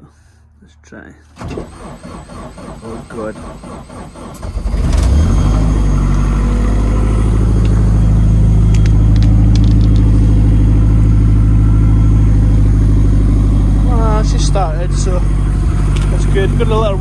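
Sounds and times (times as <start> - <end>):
car engine cranking and starting: 1.3 - 17.0
car engine fast idle: 1.4 - 17.0.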